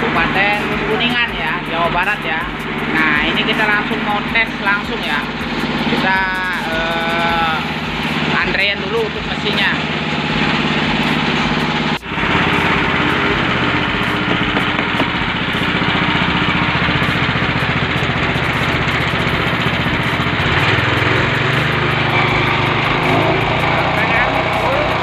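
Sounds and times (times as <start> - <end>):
small engine running steadily: 0.0 - 25.0.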